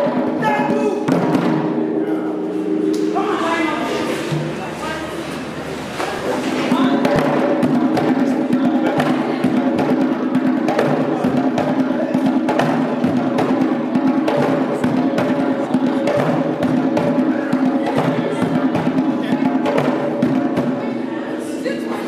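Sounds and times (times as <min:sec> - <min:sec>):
steady pitched tones: 0:00.0 - 0:22.0.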